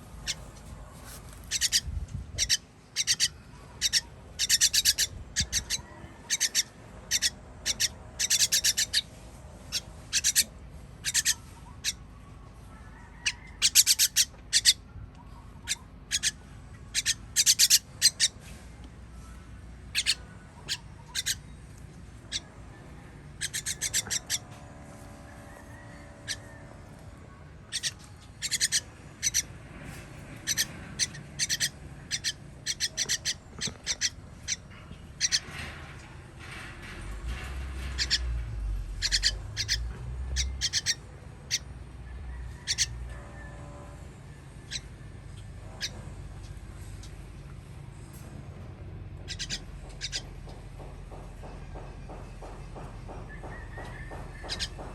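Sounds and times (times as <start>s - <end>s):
nestling birds begging chirps: 0.1s - 12.1s, 13.1s - 18.5s, 19.1s - 35.7s, 37.3s - 47.3s, 49.2s - 54.9s.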